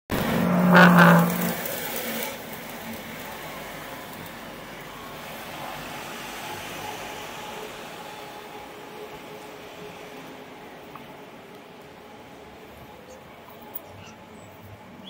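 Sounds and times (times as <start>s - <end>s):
bus passing close by: 0.1s - 15.0s
road traffic: 0.1s - 15.0s.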